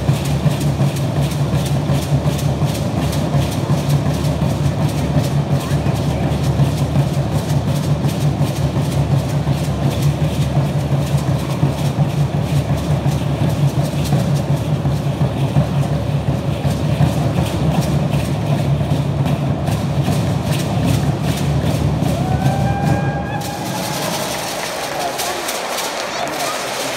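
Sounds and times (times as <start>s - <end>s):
large drum beating fast rhythm: 0.0s - 26.9s
seed-pod ankle rattles shaking: 0.0s - 26.9s.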